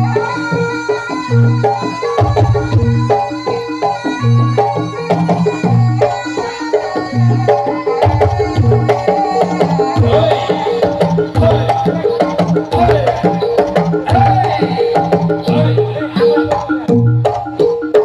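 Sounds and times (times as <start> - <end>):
gamelan ensemble music: 0.0 - 18.0.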